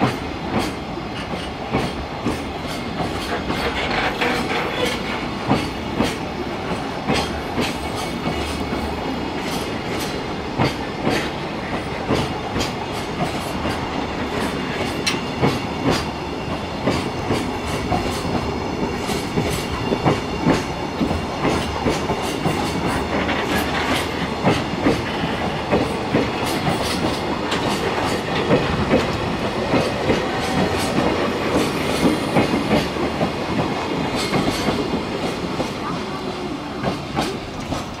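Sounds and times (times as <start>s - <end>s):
freight train rumbling past: 0.0s - 38.0s
wheels clacking over rail joints: 0.0s - 38.0s.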